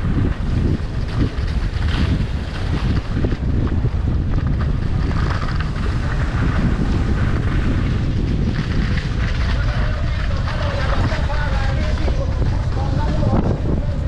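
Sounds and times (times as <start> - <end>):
skis sliding on snow: 0.0 - 14.0
wind buffeting microphone: 0.0 - 14.0.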